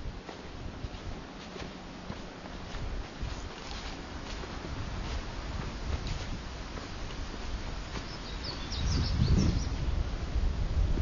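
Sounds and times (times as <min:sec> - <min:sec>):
soft footsteps: 0:00.0 - 0:09.4
low steady rumble: 0:00.0 - 0:11.0.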